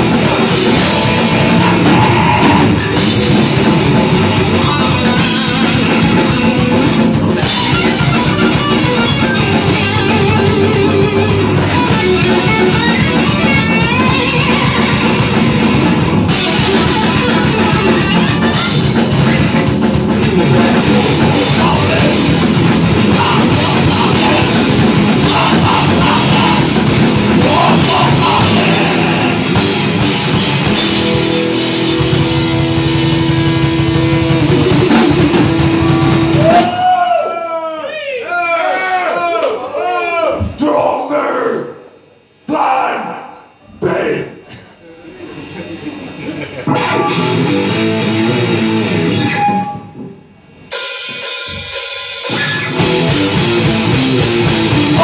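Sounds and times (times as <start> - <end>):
distorted electric guitar: 0.0 - 36.9, 45.1 - 55.0
drum kit: 0.0 - 37.2, 46.6 - 55.0
bass guitar: 0.0 - 37.3, 45.4 - 55.0.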